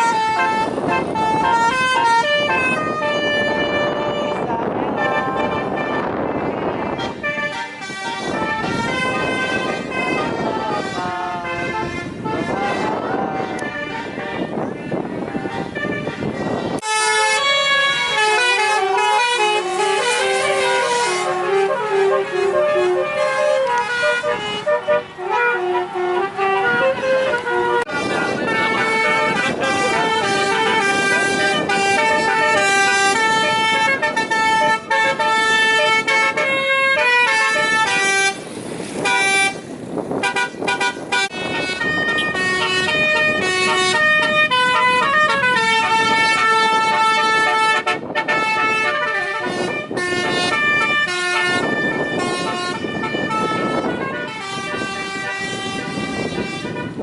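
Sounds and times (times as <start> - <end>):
multi-tone car horn tune: 0.0 - 57.0.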